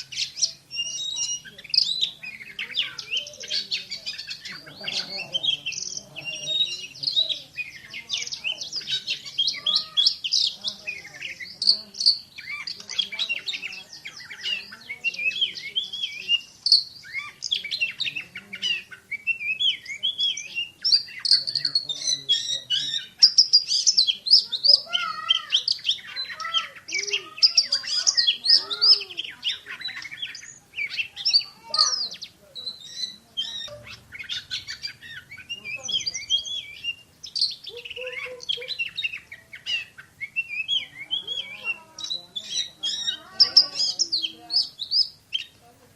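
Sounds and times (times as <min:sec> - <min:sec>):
bird singing rapid chirps: 0:00.0 - 0:45.9.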